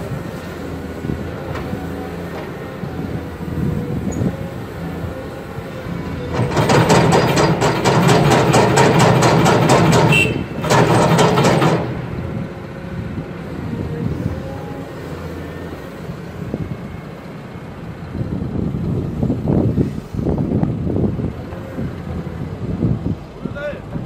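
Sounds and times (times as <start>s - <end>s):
excavator diesel engine under load: 0.0s - 24.0s.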